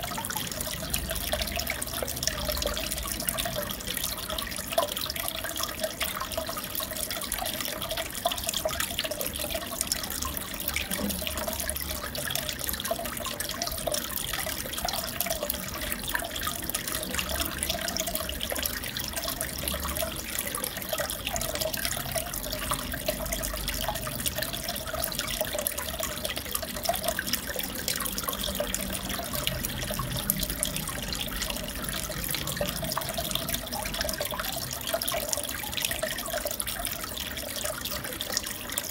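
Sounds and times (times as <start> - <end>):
aquarium water trickling and bubbling: 0.0 - 38.9.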